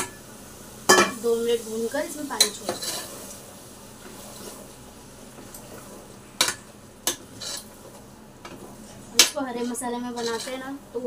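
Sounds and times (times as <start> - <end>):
food sizzling in pot: 0.0 - 11.0.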